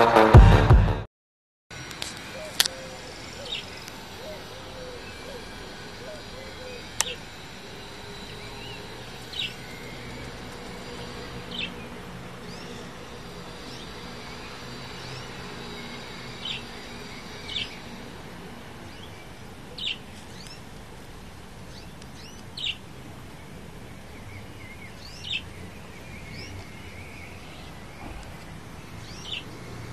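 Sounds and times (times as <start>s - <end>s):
outdoor hiss: 1.8s - 29.9s
bird chirping: 2.2s - 20.7s, 21.6s - 29.9s.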